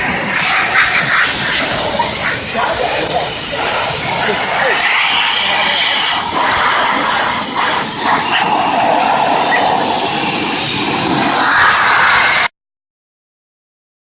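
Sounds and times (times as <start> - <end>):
steam jet hissing: 0.0 - 12.5.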